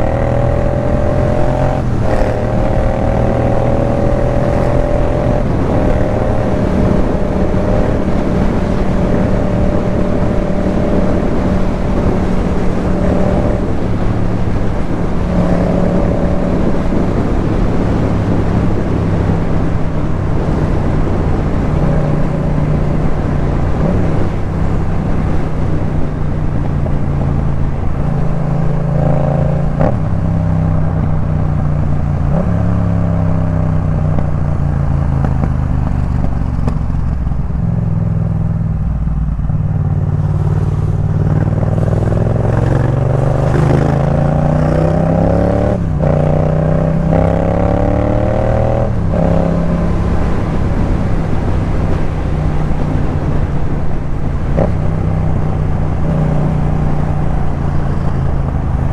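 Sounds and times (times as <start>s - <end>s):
motorcycle engine revving through gears: 0.0s - 58.9s.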